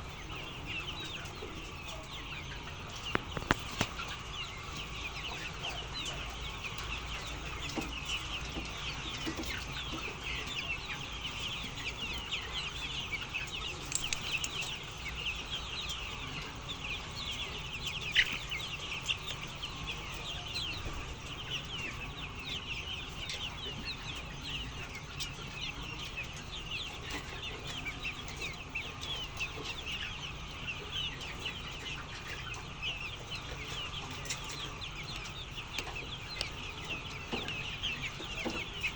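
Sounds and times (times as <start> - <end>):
flock of chickens calling: 0.0 - 38.9.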